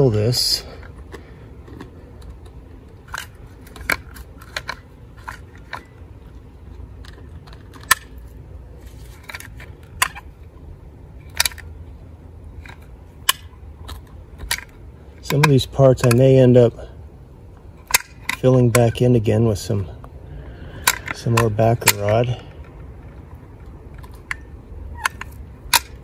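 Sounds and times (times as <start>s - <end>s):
caulking gun clicking and creaking: 0.6s - 8.4s, 9.0s - 10.3s, 11.3s - 11.8s, 12.5s - 16.6s, 17.7s - 19.8s, 20.7s - 26.0s.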